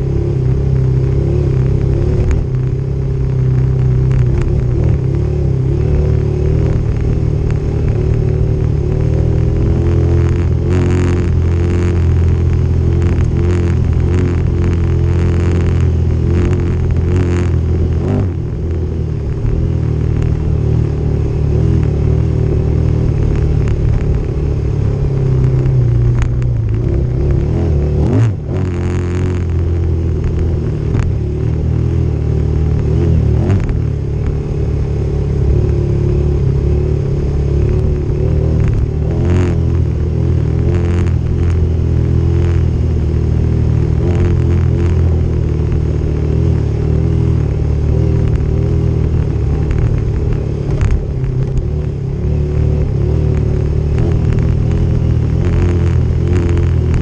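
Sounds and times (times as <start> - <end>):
off-road motorcycle engine running: 0.0 - 57.0.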